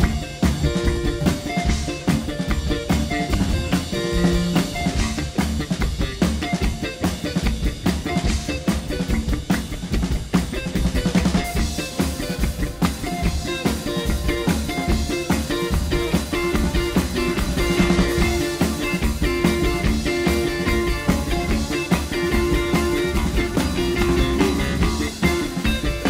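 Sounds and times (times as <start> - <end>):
drum kit: 0.0 - 26.0
rock band playing: 0.0 - 26.0.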